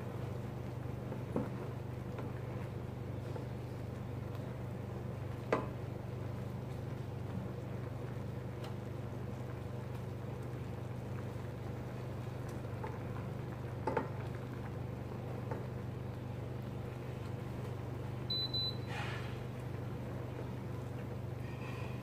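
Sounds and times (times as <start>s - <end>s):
low appliance hum: 0.0s - 22.0s.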